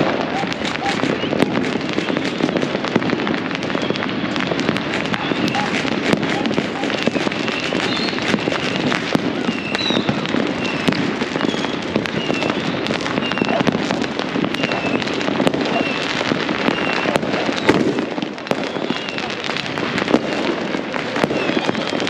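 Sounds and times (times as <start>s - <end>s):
firecrackers crackling: 0.0s - 22.0s
fireworks popping and banging: 0.0s - 22.0s.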